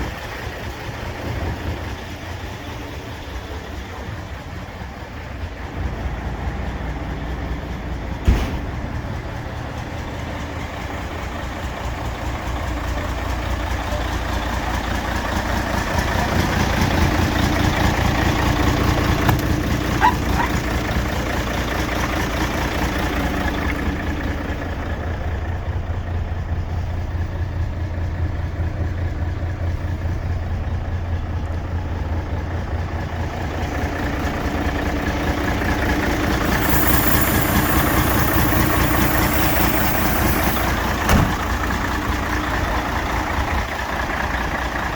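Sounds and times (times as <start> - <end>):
truck diesel engine idling: 0.0 - 44.9.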